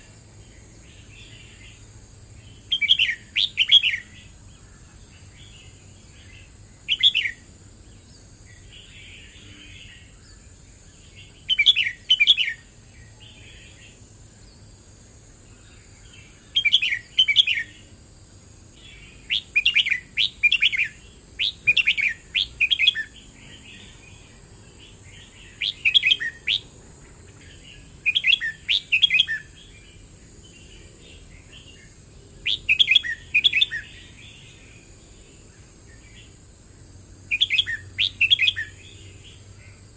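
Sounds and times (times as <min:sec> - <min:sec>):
soft bird twitters: 0:00.0 - 0:14.7, 0:15.5 - 0:17.9, 0:18.7 - 0:29.9, 0:30.6 - 0:34.9, 0:37.3 - 0:39.8
bird singing chirpy phrases: 0:00.0 - 0:18.0, 0:18.6 - 0:36.5, 0:37.1 - 0:39.9.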